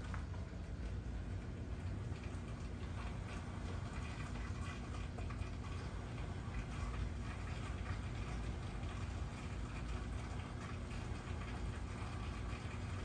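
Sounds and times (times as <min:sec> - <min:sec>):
aquarium air bubbling: 0:00.0 - 0:13.0
steady low hum: 0:00.0 - 0:13.0.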